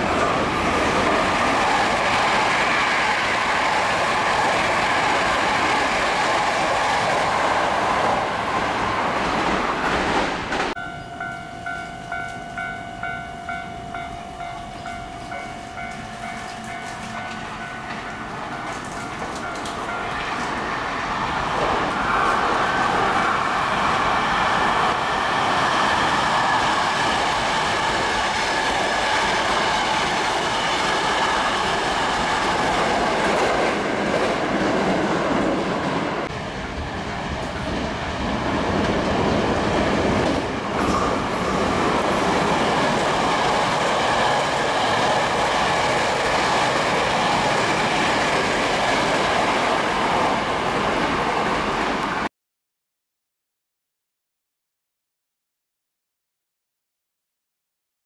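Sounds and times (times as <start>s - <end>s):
train wheels rumbling on rail: 0.0s - 52.3s.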